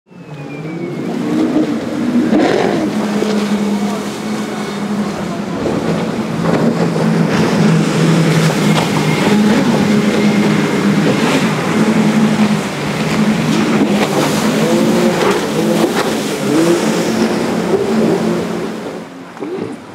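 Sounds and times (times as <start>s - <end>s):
speedboat engines droning: 0.1s - 19.9s
water and wind noise: 0.1s - 19.9s.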